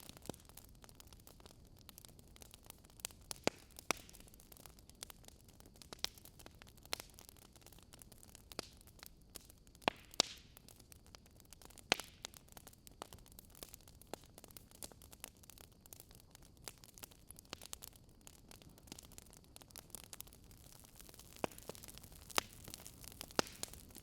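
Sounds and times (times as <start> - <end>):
burning logs crackling: 0.0 - 24.0
sharp pops of burning wood: 0.0 - 24.0.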